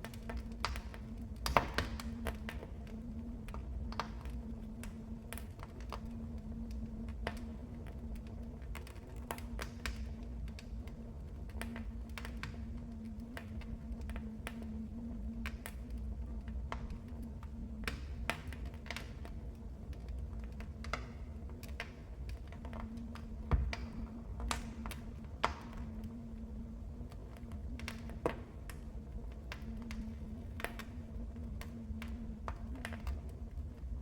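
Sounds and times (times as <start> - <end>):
low rumble and hum: 0.0 - 34.0
wood fire crackling and popping: 0.0 - 34.0.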